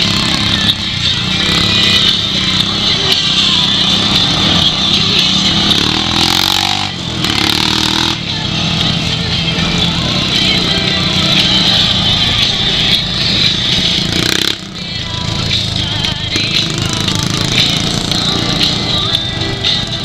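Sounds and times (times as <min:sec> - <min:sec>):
utility vehicle engine revving: 0:00.0 - 0:20.0.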